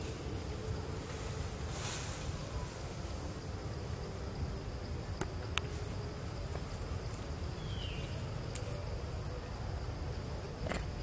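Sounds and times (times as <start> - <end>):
faint insect hum: 0.0 - 11.0.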